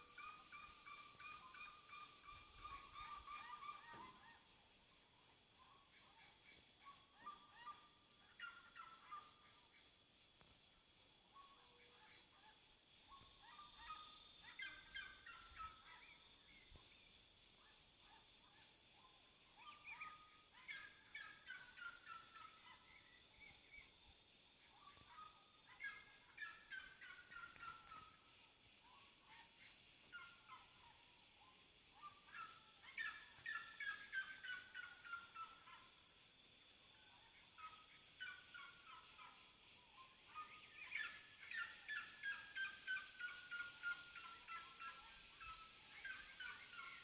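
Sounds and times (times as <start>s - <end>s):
birds calling in descending runs: 0.0s - 47.0s.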